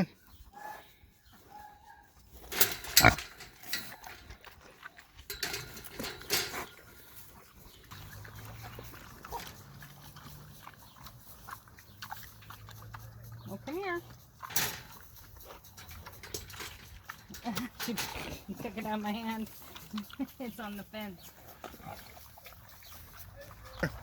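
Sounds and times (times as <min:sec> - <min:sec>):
pig grunting and snuffling: 0:00.0 - 0:24.0.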